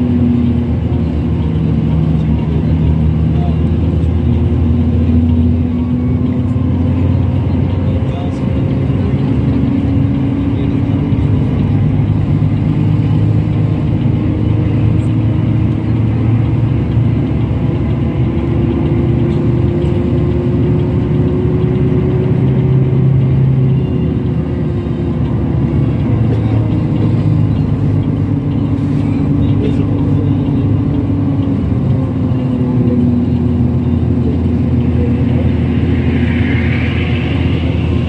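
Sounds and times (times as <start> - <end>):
bus engine rumble: 0.0 - 38.0
road noise: 0.0 - 38.0.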